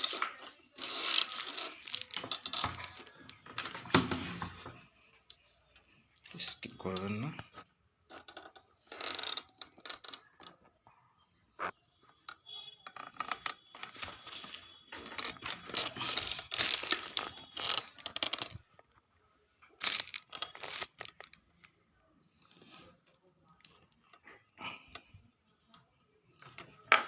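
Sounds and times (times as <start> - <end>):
scraping and crinkling on circuit board: 0.0 - 10.8, 11.5 - 19.0, 19.6 - 27.0.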